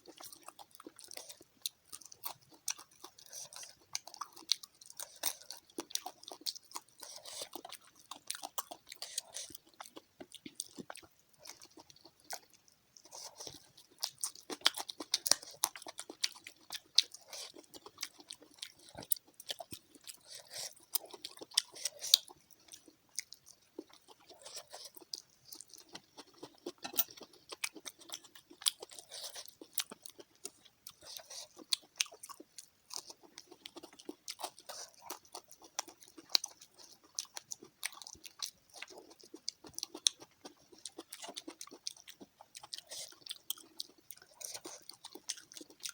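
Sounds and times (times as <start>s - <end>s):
chewing and crunching fried fish: 0.0s - 45.9s.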